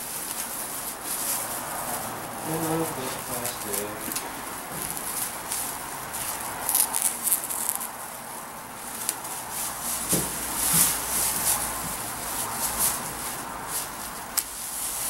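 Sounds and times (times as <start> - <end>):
plastic sheeting crinkling: 0.0 - 15.0.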